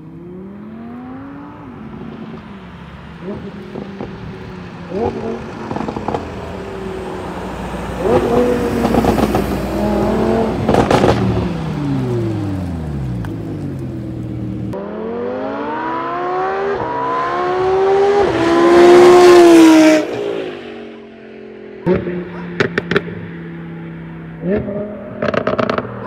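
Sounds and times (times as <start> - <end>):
sports car engine revving: 3.1 - 20.9, 21.6 - 26.0.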